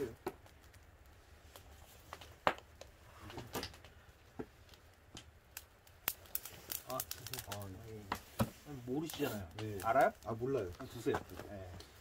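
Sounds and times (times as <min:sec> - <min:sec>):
clicks and crackles at grill: 0:00.0 - 0:12.0.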